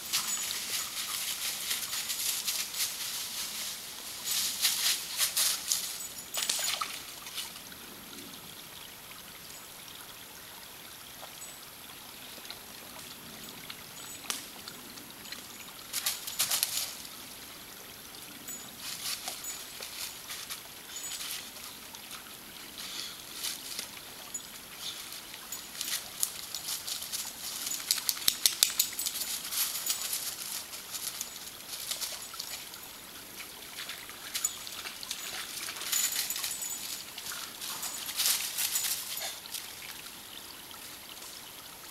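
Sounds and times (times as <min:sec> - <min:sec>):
creek water running: 0:00.0 - 0:41.9.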